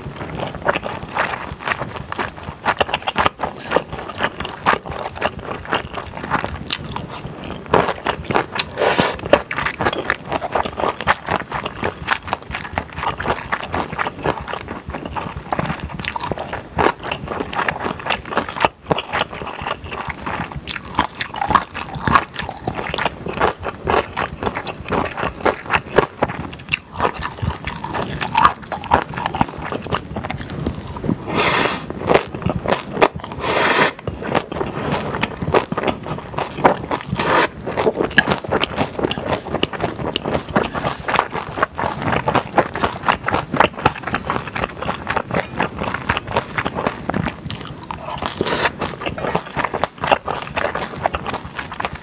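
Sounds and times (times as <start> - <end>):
mouth clicks and smacks: 0.0 - 52.0
wet chewing of noodles: 0.0 - 52.0
noodle slurps: 2.7 - 52.0.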